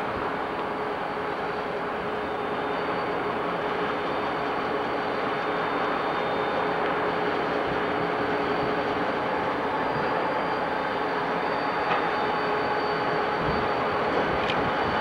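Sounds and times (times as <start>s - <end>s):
diesel locomotives rolling past: 0.0s - 15.0s.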